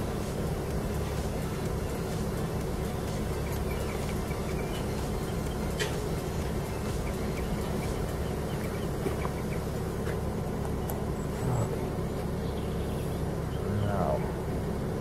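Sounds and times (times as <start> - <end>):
car engine running: 0.0 - 15.0
low rumble of outdoor noise: 0.0 - 15.0.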